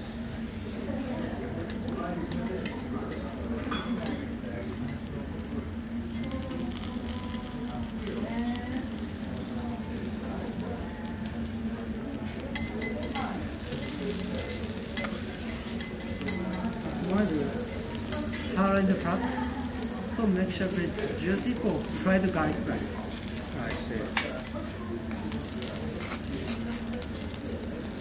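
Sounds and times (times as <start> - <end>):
steak sizzling on a griddle: 0.0 - 28.0.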